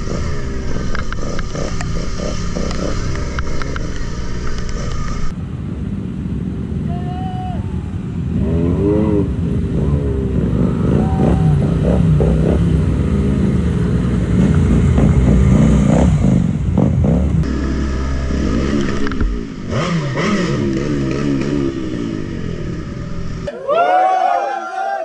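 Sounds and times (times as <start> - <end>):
motorcycles and scooters riding past: 0.0 - 7.1, 7.8 - 23.3.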